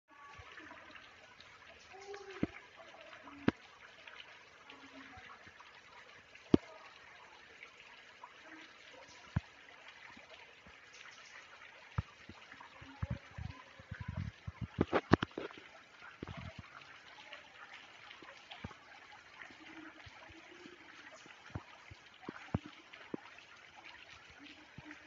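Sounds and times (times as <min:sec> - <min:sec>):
water trickling over rocks: 0:00.1 - 0:25.0.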